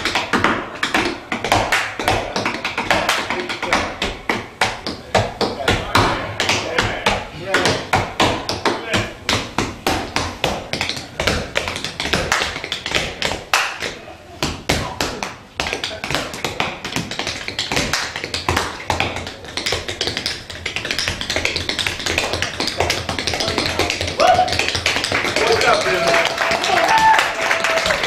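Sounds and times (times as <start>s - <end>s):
tap shoes tapping floor: 0.0s - 28.0s.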